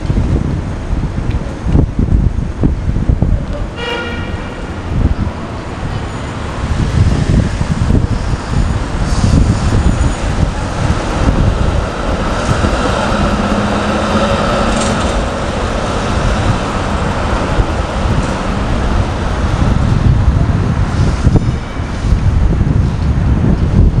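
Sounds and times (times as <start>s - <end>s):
passing cars: 0.0s - 24.0s
streetcar steady whine: 0.0s - 24.0s
streetcar wheels rumbling on rail: 0.0s - 24.0s.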